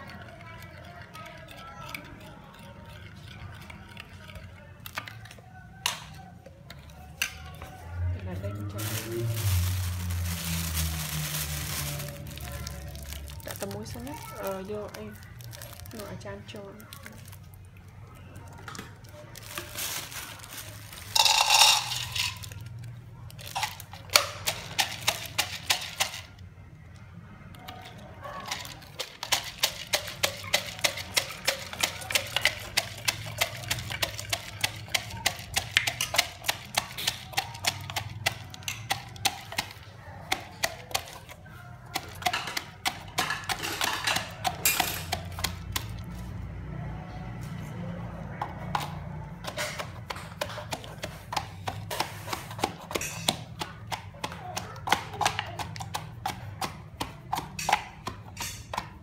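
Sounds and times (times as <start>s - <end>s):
noisy food handling: 0.0s - 59.0s.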